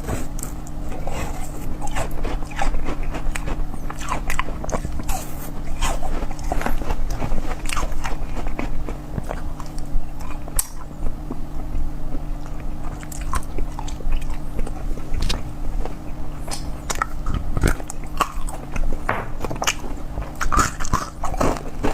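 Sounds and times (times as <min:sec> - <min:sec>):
person chewing crunchy food: 0:00.0 - 0:21.9.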